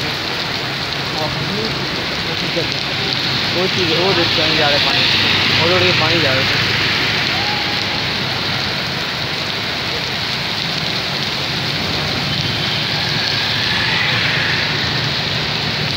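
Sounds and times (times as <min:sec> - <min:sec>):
heavy rain on pavement: 0:00.0 - 0:15.9.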